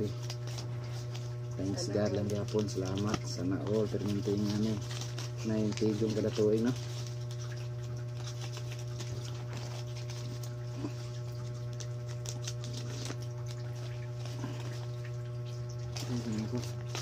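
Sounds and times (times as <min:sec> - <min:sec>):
low electrical hum: 0:00.0 - 0:17.0
paper banknotes crinkling: 0:00.0 - 0:17.0.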